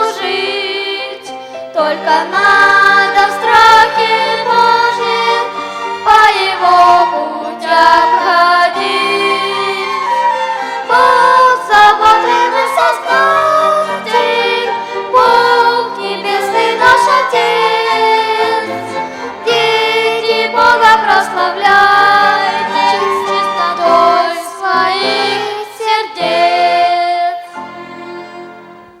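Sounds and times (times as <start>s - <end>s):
children's choir singing hymn: 0.0s - 29.0s
violin and wind orchestra: 0.0s - 29.0s.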